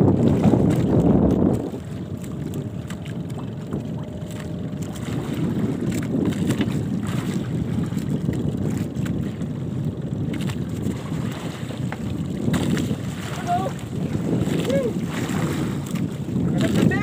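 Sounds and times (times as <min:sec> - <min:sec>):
water washing against boat: 0:00.0 - 0:17.0
wind buffeting microphone: 0:00.0 - 0:17.0.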